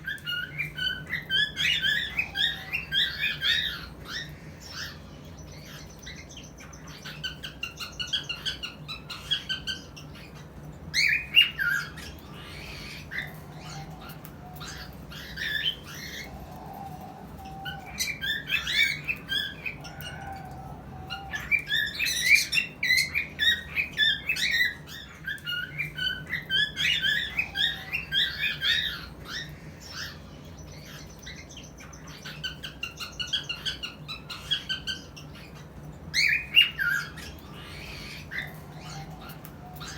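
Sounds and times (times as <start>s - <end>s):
cockatiels chirping and whistling: 0.0s - 39.9s.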